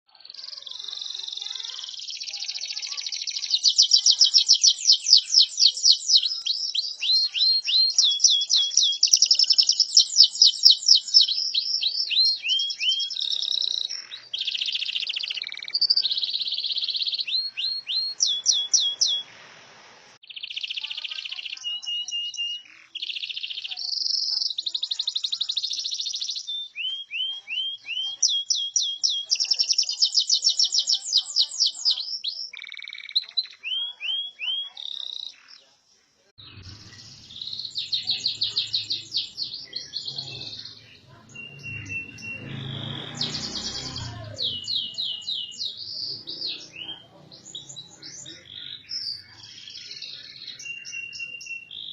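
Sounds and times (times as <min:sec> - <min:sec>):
canary singing: 0:00.1 - 0:19.5, 0:20.2 - 0:35.8, 0:36.4 - 0:51.9.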